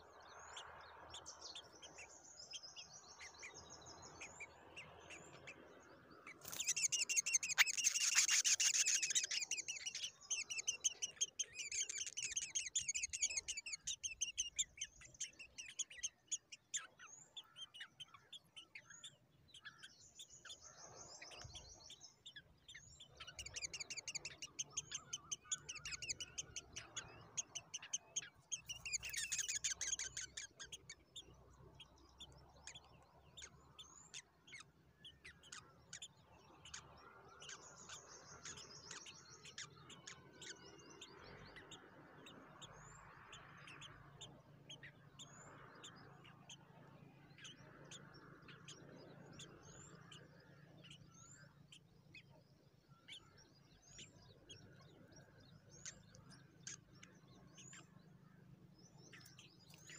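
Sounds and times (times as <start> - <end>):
nestling birds chirping: 0.0 - 59.9.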